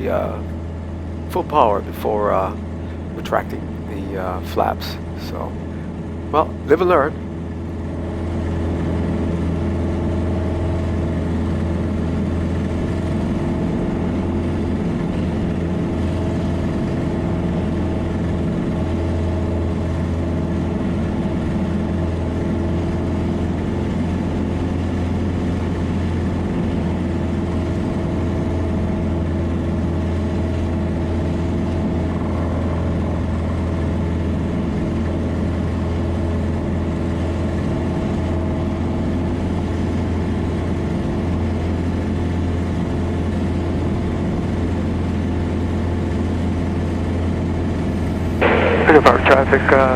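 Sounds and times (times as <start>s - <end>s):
aircraft engine and propeller drone: 0.0s - 49.9s.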